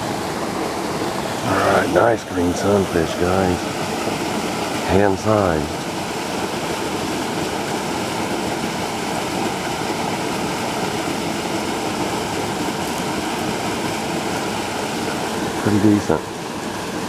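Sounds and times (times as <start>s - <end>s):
water pouring over a spillway: 0.0s - 17.0s.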